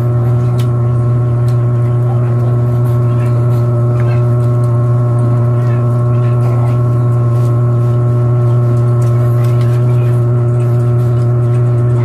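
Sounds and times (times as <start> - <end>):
loud steady low hum: 0.0 - 12.0.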